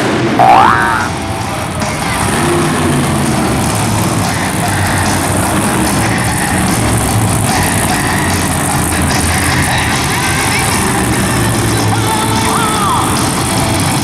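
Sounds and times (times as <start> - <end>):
arena noise: 0.0 - 14.0
truck engine running loud: 0.0 - 14.0.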